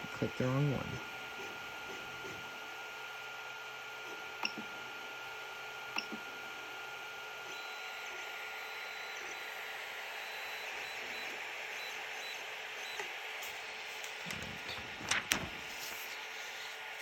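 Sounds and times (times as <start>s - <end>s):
cooling fans whirring: 0.0s - 17.0s.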